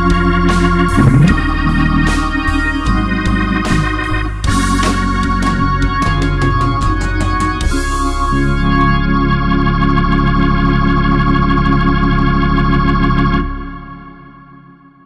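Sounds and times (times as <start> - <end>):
organ chords: 0.0 - 14.9.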